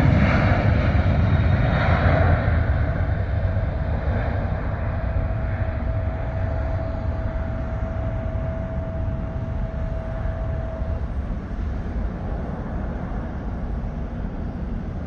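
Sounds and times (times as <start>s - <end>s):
jet engines roaring: 0.0s - 15.0s
thin steady whine: 1.7s - 15.0s.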